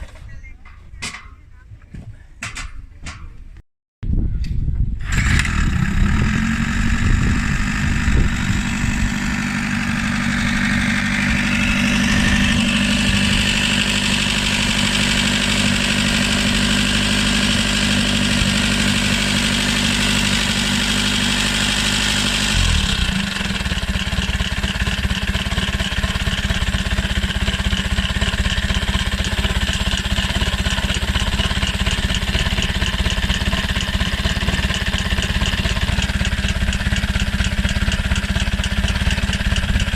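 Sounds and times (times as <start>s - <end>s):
motorcycle engine idling: 5.8s - 39.9s.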